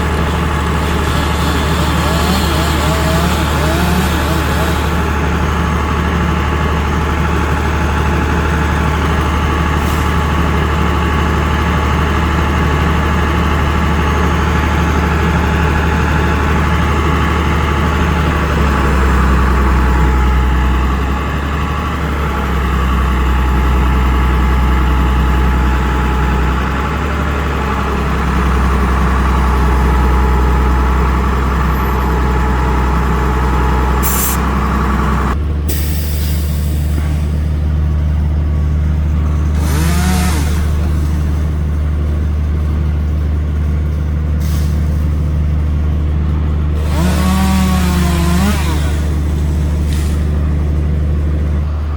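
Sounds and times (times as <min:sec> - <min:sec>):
truck engine droning: 0:00.0 - 0:51.9.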